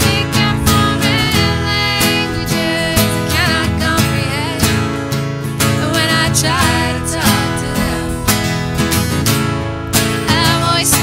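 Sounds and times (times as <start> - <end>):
woman singing with vibrato: 0.0 - 5.0, 5.6 - 8.8, 10.1 - 11.0
acoustic guitars strumming: 0.0 - 11.0.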